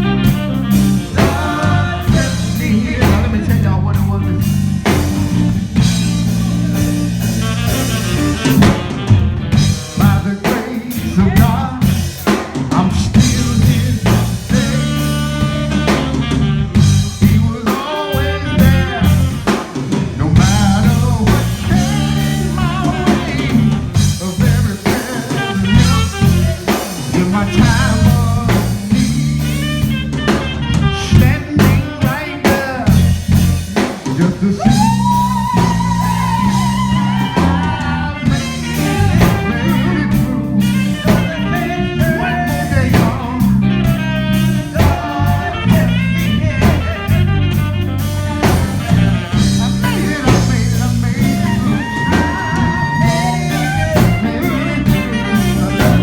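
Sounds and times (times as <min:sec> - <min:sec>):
blues band playing: 0:00.0 - 0:56.0.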